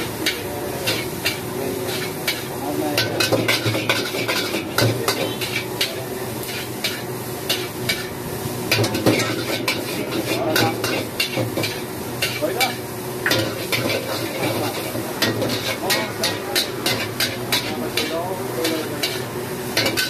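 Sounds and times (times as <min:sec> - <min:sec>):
noodles sizzling in a wok: 0:00.0 - 0:20.0
metal spatulas scraping a wok: 0:00.2 - 0:08.1, 0:08.7 - 0:20.0.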